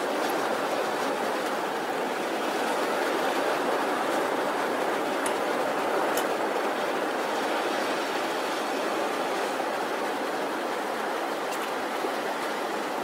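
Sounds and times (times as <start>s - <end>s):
surf breaking on a beach: 0.0s - 13.0s.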